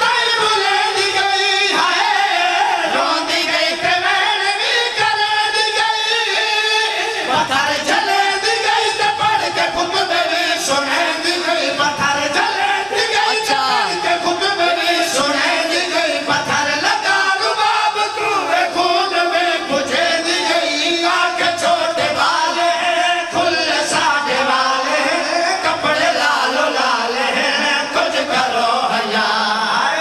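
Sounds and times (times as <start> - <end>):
boy and men singing a lament: 0.0 - 30.0.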